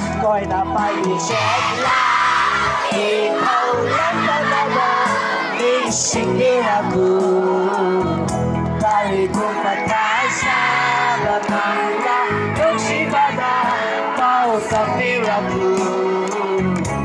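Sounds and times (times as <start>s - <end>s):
song with instrumental backing: 0.0s - 17.0s
children singing and shouting: 0.7s - 16.8s
lead voice singing: 0.7s - 17.0s.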